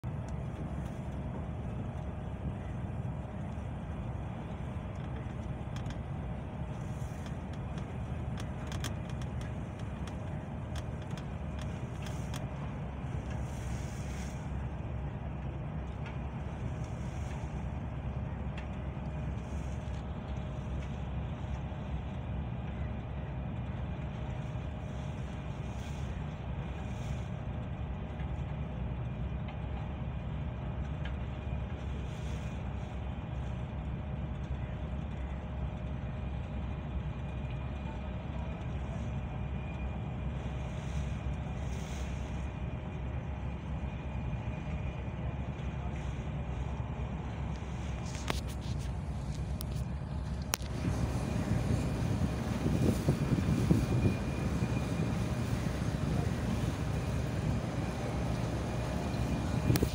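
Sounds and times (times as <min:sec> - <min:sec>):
boat engine rumble: 0:00.0 - 0:59.9
faint steady whine: 0:00.0 - 0:59.9.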